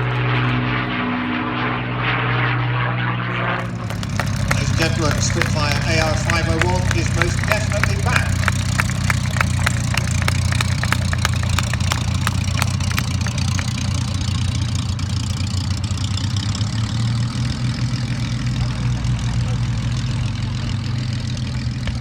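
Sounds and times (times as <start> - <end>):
aircraft piston engine droning: 0.0 - 22.0.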